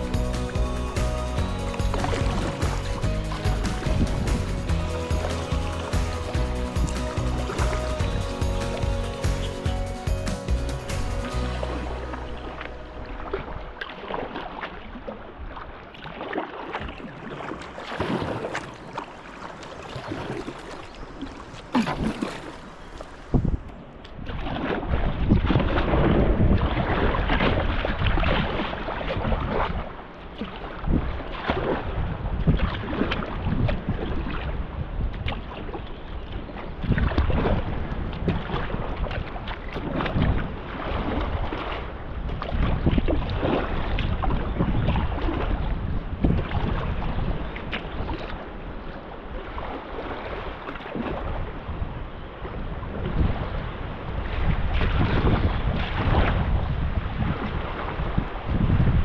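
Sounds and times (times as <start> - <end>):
wind buffeting microphone: 0.0 - 15.8, 16.8 - 30.0, 30.8 - 59.0
water splashing around kayak: 0.0 - 59.0.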